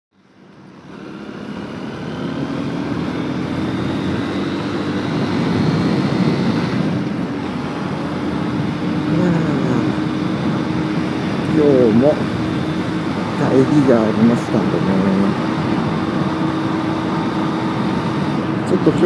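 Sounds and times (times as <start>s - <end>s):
motorcycle engine running: 0.2s - 19.0s.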